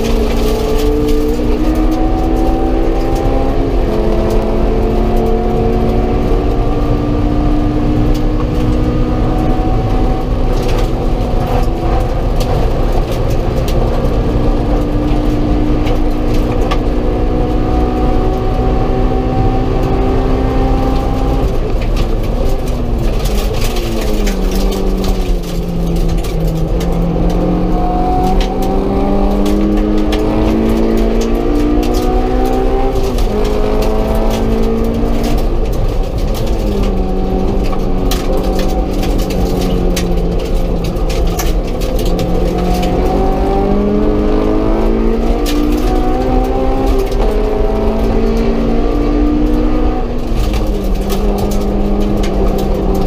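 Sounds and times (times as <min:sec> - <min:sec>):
car engine at racing speed: 0:00.0 - 0:53.0.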